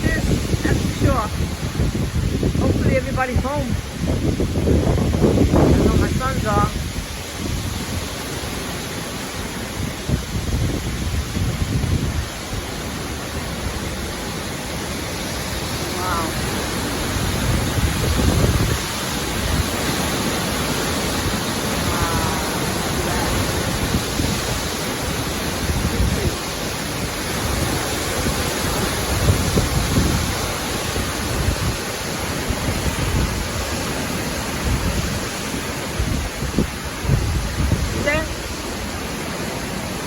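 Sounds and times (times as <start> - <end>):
storm wind buffeting microphone: 0.0 - 40.0.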